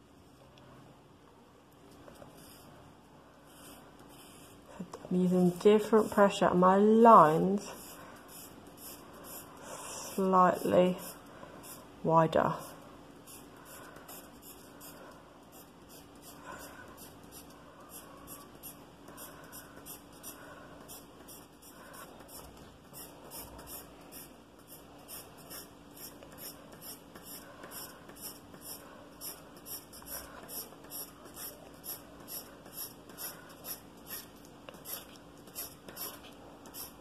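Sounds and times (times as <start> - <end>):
pencil scratching on paper: 2.2 - 2.7, 3.5 - 4.7, 7.7 - 37.0.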